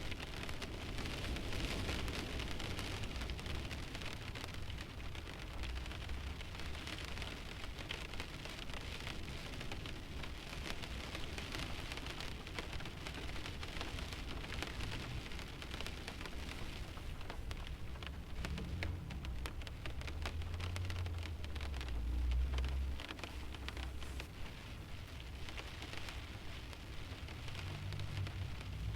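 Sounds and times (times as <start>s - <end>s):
rain tapping on windshield: 0.0s - 28.9s.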